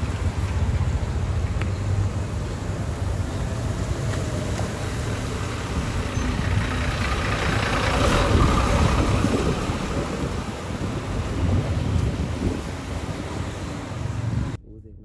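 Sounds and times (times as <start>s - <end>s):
large vehicle passing on wet road: 0.0s - 14.6s.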